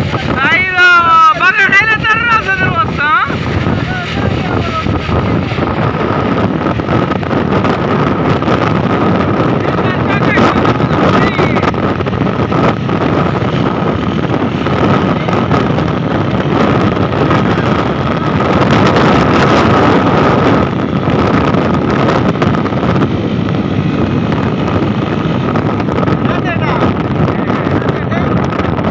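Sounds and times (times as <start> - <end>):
wind rushing over microphone: 0.0 - 28.9
motorcycle engine running: 2.3 - 28.9.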